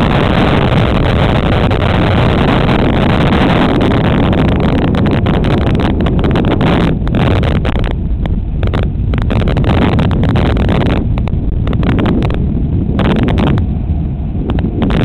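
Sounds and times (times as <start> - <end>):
crackles: 0.0 - 15.0
wind buffeting microphone: 0.0 - 15.0.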